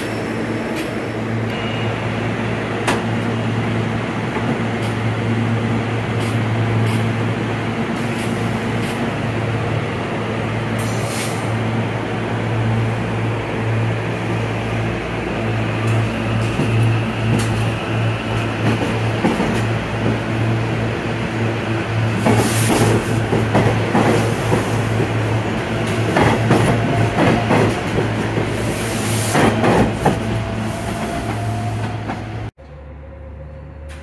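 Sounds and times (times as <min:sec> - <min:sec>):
train equipment humming: 0:00.0 - 0:34.0.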